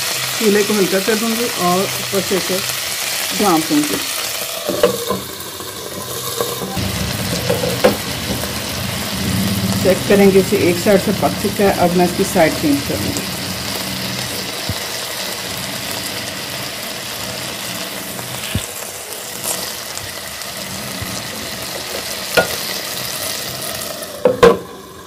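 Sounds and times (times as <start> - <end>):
skewers sizzling in oil: 0.0 - 25.0.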